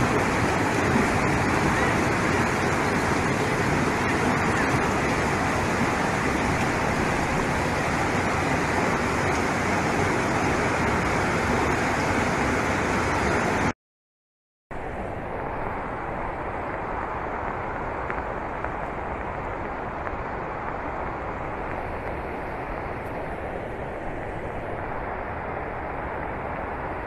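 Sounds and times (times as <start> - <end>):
floodwater rushing: 0.0 - 13.8, 14.8 - 27.0
heavy rain: 0.0 - 13.8, 14.7 - 27.0.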